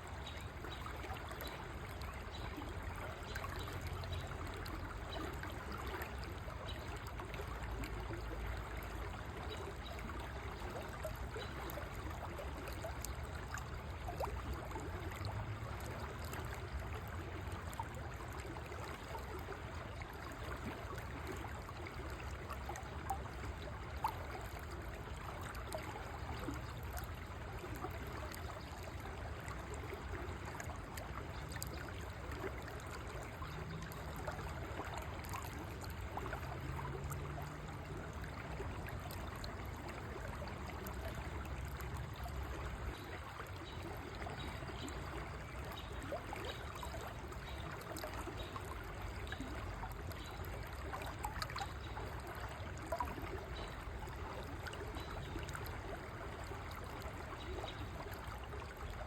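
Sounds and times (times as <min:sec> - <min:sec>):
river water babbling over rocks: 0:00.0 - 0:59.0.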